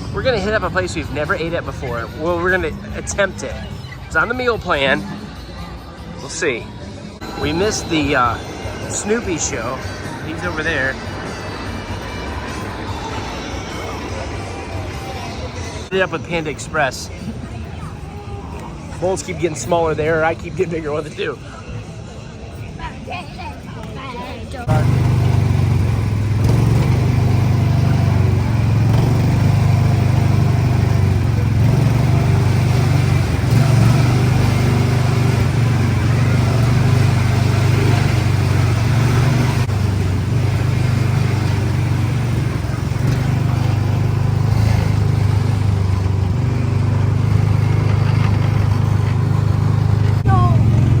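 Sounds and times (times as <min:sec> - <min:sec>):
vehicle engine humming: 0:00.0 - 0:51.0.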